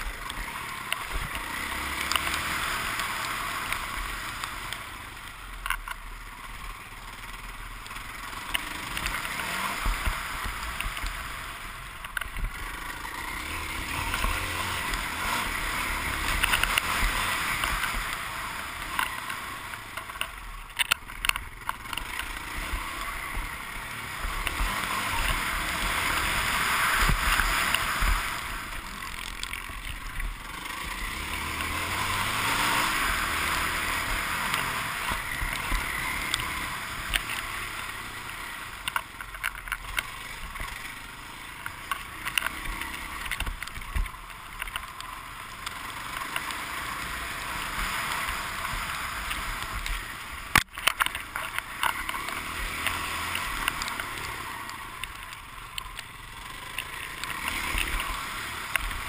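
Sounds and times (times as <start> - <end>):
dirt bike engine revving: 0.0 - 4.8, 6.4 - 20.2, 21.5 - 38.9, 45.2 - 55.5, 56.2 - 59.0.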